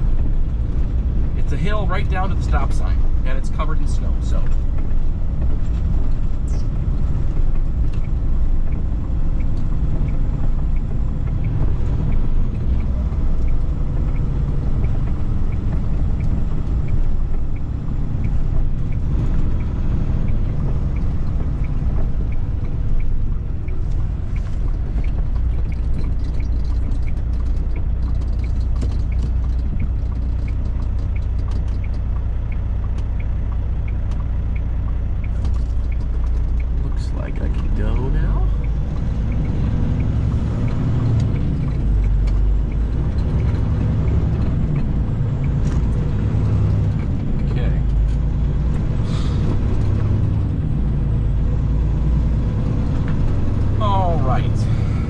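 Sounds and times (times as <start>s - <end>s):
light ticking: 0.0s - 55.0s
truck diesel engine rumble: 0.0s - 55.0s.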